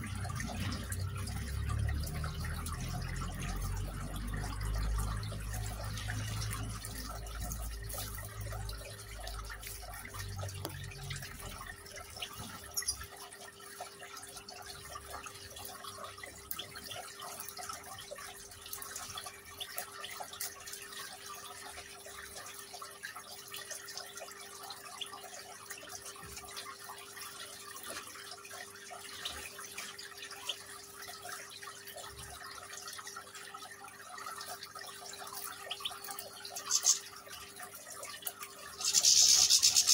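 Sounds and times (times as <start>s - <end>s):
water trickling in fountain: 0.0s - 39.9s.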